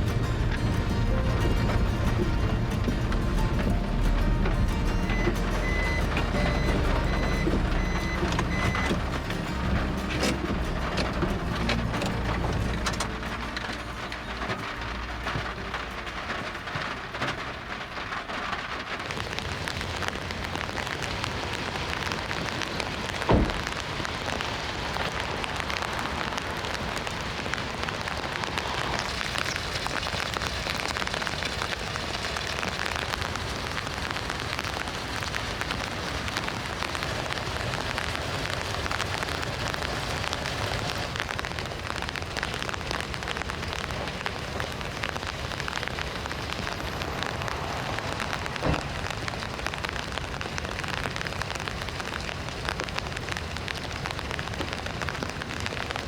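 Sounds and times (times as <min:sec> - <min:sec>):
heavy rain falling: 0:00.0 - 0:56.0
vehicle engine hum: 0:00.0 - 0:56.0.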